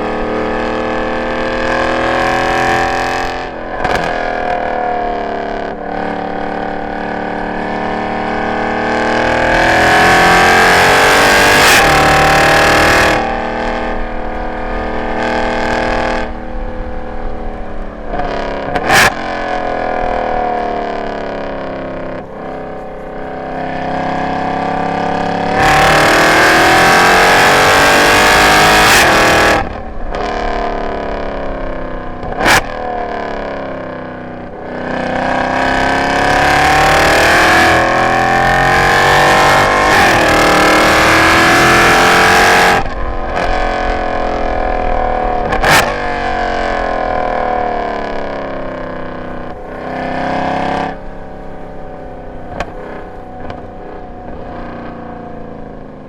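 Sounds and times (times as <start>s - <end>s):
exhaust crack on overrun: 0.0s - 9.5s, 11.5s - 28.2s, 28.8s - 56.0s
car engine accelerating hard: 0.0s - 56.0s.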